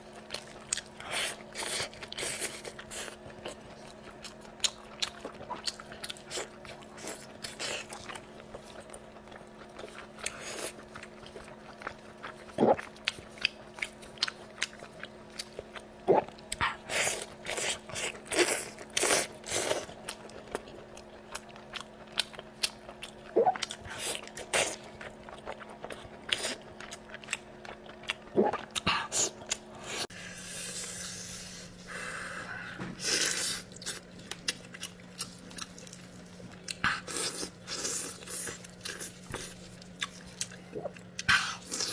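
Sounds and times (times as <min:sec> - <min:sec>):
faint steady hum: 0:00.0 - 0:41.9
person chewing and biting: 0:00.2 - 0:30.1, 0:33.0 - 0:41.9.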